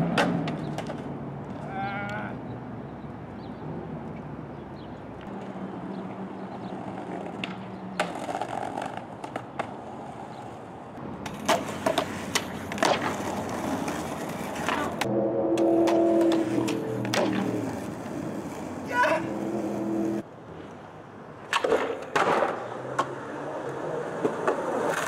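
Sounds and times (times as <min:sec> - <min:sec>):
skateboard clacking on ground: 0:00.0 - 0:02.2, 0:05.2 - 0:20.8, 0:21.4 - 0:25.0
skateboard wheels rolling on concrete: 0:00.0 - 0:25.0.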